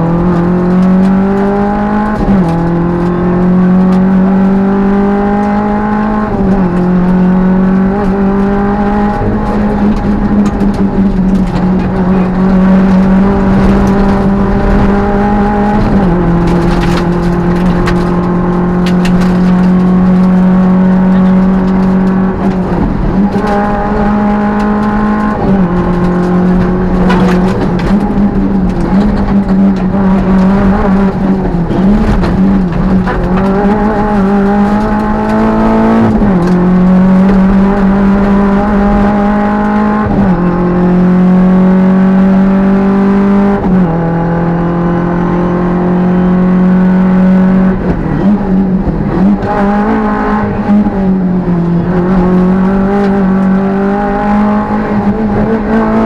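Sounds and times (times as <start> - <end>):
rally car engine revving high: 0.0 - 56.0.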